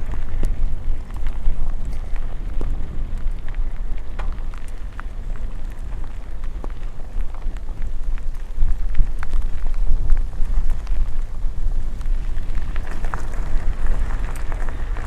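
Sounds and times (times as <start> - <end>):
low rain rumble: 0.0 - 15.0
raindrops ticking: 0.0 - 15.0.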